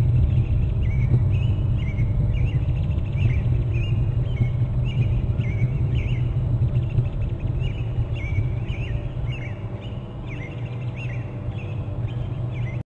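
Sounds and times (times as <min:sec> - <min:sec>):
low rumble: 0:00.0 - 0:12.8
bird chirping: 0:00.2 - 0:12.8.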